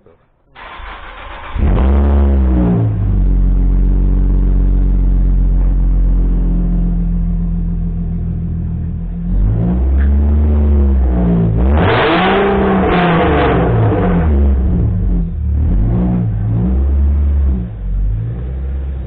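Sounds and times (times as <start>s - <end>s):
car engine idling and revving: 0.6s - 19.0s.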